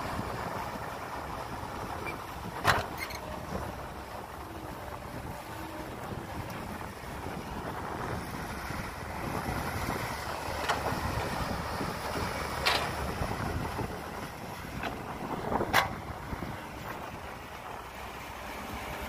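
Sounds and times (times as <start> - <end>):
excavator running under load: 0.0 - 19.0
wind buffeting microphone: 0.0 - 19.0.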